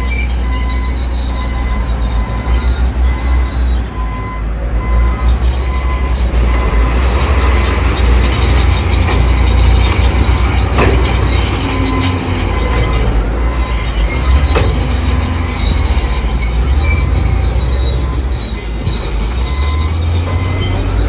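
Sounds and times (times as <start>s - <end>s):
diesel engine rumble: 0.0s - 21.0s
steel tracks squealing and clanking: 0.0s - 21.0s.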